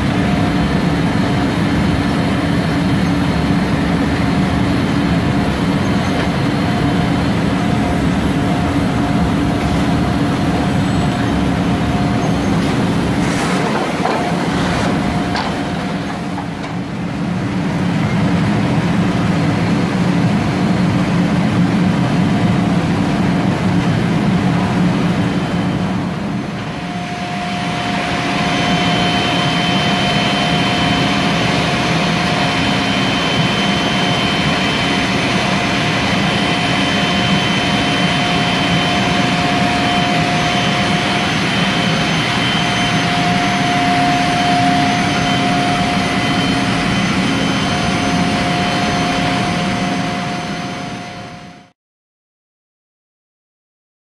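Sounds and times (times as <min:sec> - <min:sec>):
central vacuum system running: 0:00.0 - 0:51.7.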